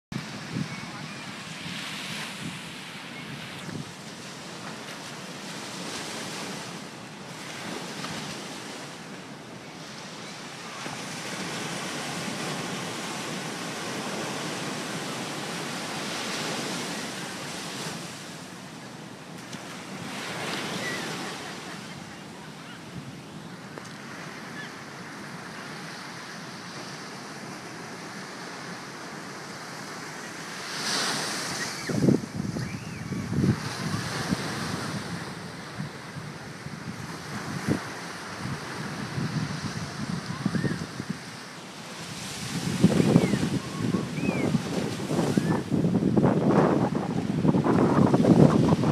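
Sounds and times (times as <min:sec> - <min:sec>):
ocean surf breaking on beach: 0:00.1 - 0:48.9.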